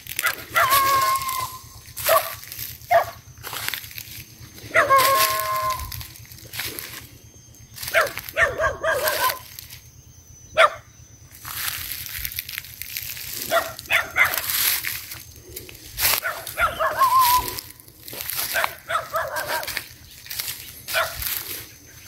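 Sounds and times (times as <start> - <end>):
brush rustling: 0.0 - 9.9, 11.4 - 21.9
dogs whining and yipping: 0.1 - 9.7, 13.4 - 22.0.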